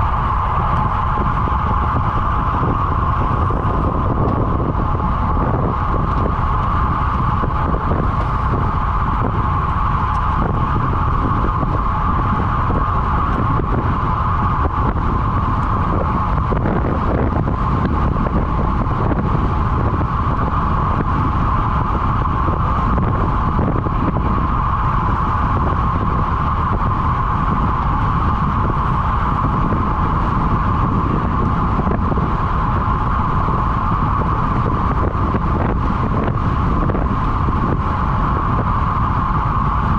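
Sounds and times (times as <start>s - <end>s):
constant whine: 0.0s - 39.9s
wind rushing on microphone: 0.0s - 39.9s.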